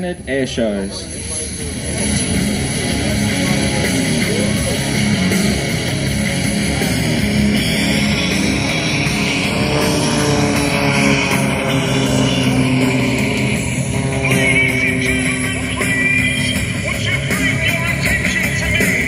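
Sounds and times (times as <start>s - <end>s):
rock music with guitar: 1.4s - 19.0s.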